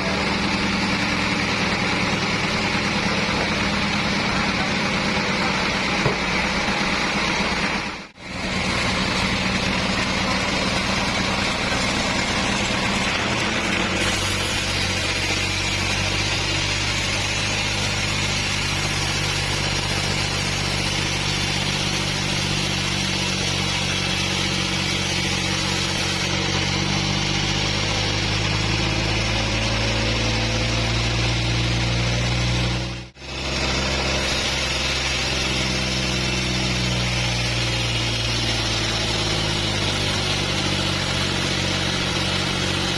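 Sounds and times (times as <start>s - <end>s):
bandsaw sawmill engine running: 0.0s - 42.9s.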